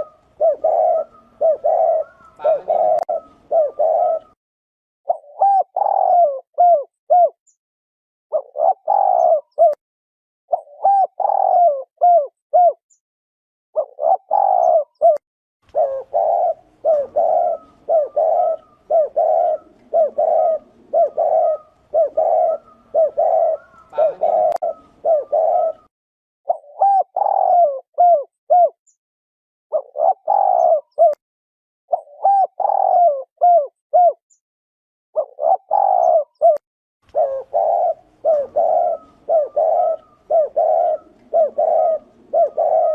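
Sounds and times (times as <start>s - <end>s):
dove cooing: 0.0s - 4.4s, 5.1s - 7.4s, 8.3s - 9.8s, 10.5s - 12.8s, 13.8s - 25.9s, 26.5s - 28.8s, 29.7s - 31.2s, 31.9s - 34.2s, 35.2s - 42.9s.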